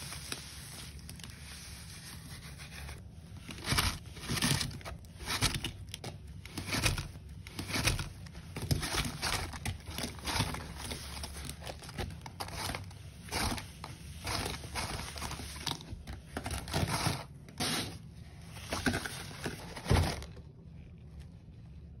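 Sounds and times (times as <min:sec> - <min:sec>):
powder crunching against cardboard: 0:00.0 - 0:20.4.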